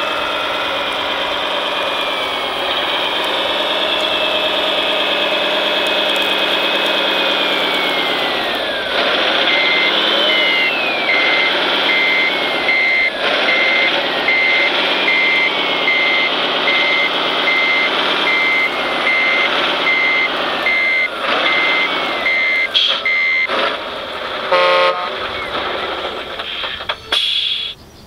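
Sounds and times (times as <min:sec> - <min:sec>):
reversing beeper: 0:00.0 - 0:23.6
diesel engine sound: 0:00.0 - 0:28.0.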